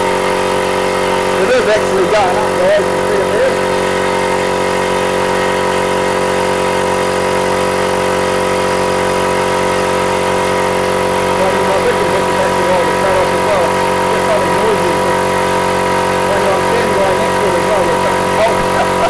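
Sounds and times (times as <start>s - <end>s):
air compressor humming: 0.0s - 19.0s.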